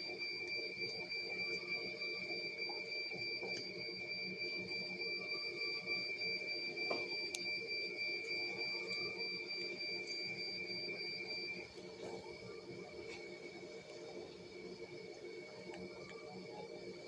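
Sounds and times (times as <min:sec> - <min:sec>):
high-pitched electronic alarm tone: 0:00.0 - 0:17.0
low hum of machines: 0:00.0 - 0:17.0.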